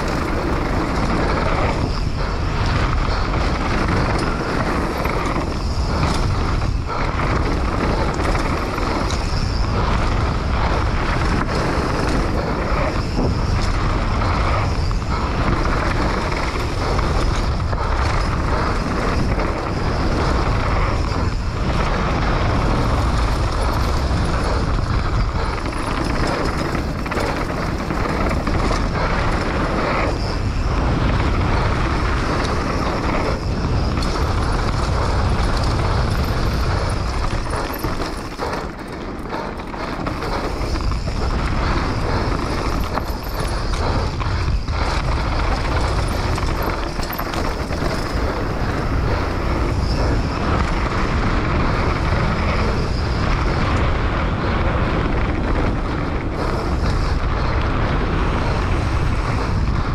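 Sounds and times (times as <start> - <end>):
bike clattering: 0.0 - 59.9
bike tyres rolling on gravel: 0.0 - 59.9
wind rushing over microphone: 0.0 - 59.9.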